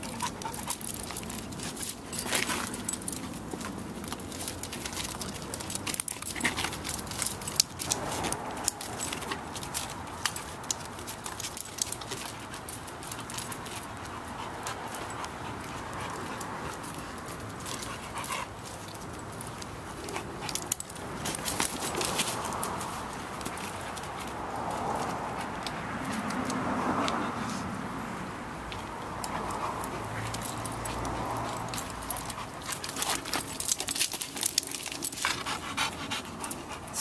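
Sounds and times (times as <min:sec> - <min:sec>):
dog panting: 0:00.0 - 0:27.7, 0:29.0 - 0:37.0
collar and leash jingling: 0:00.0 - 0:37.0.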